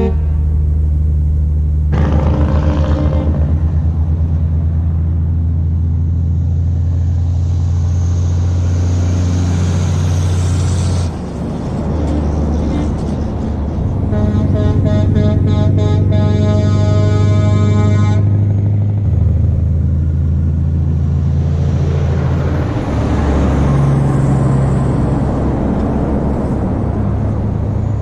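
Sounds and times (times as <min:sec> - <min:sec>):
diesel truck engine rumbling: 0:00.0 - 0:28.0.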